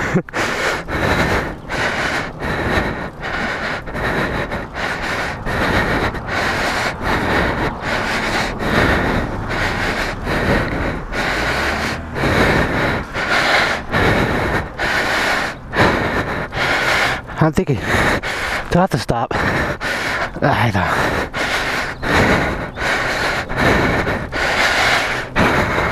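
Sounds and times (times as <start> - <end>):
man panting: 0.0 - 25.9.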